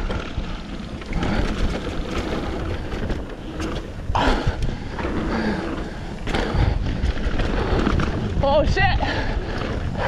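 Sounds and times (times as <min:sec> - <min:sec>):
bike rattling: 0:00.0 - 0:10.0
tyres on packed dirt: 0:00.0 - 0:10.0
wind buffeting microphone: 0:00.0 - 0:10.0.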